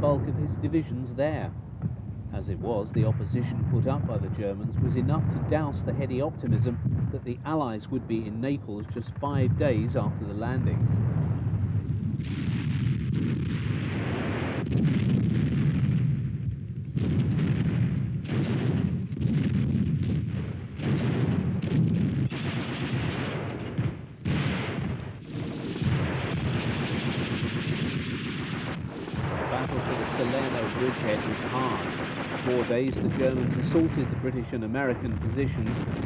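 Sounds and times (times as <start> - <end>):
gunfire and artillery blasts: 0.0 - 36.0.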